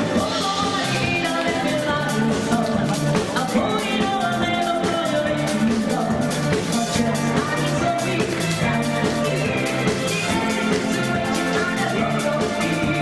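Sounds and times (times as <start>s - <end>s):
live rock and roll band: 0.0s - 13.0s.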